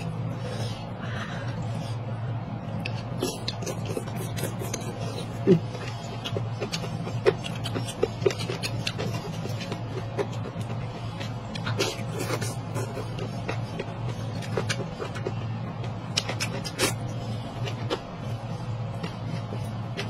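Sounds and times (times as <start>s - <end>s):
person chewing and slurping noodles: 0.0s - 20.0s
steady low hum: 0.0s - 20.0s.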